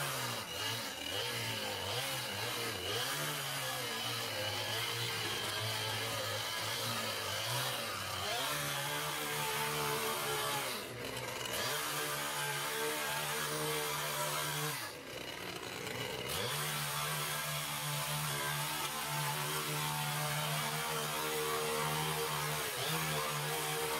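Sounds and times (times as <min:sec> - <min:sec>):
tiller engine revving: 0:00.0 - 0:23.9.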